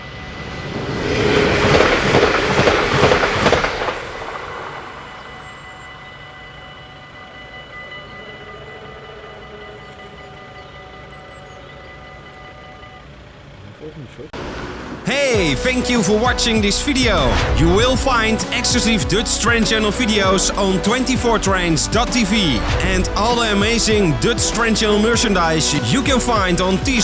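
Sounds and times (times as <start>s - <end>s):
crossing warning bells ringing: 0.0s - 14.2s, 14.9s - 27.0s
train passing: 0.0s - 27.0s.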